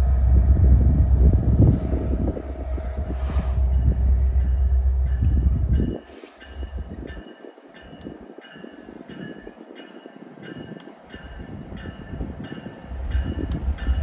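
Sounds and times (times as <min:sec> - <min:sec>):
railcar wheels clattering: 0:00.0 - 0:14.0
train rumbling past: 0:00.0 - 0:14.0.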